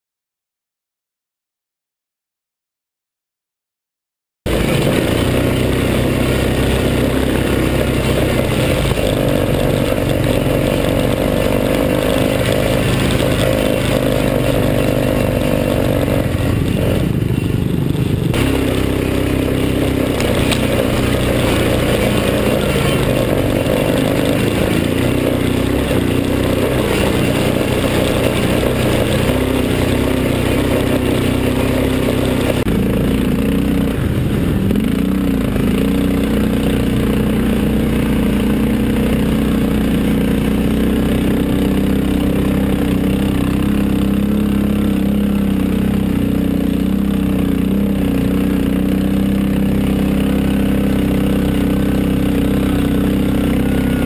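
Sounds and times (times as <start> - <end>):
quad engine running: 4.5 - 54.0.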